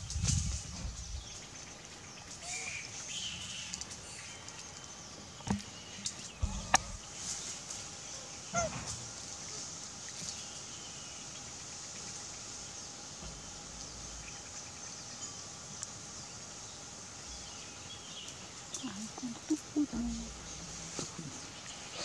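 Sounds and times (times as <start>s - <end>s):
steady high hiss: 0.0s - 22.0s.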